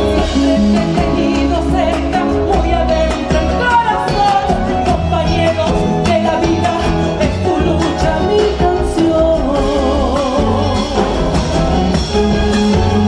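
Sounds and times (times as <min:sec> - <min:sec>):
band accompaniment: 0:00.0 - 0:13.0
person singing: 0:00.0 - 0:13.0.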